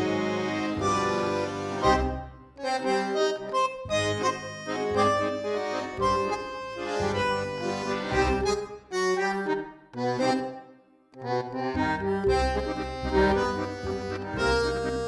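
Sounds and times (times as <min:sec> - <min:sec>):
bandoneon tango music: 0:00.0 - 0:15.0.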